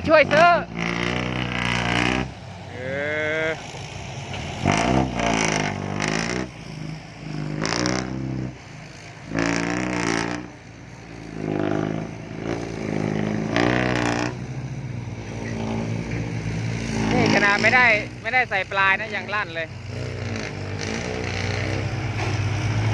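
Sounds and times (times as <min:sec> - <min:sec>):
diesel truck engine revving: 0:00.0 - 0:22.9.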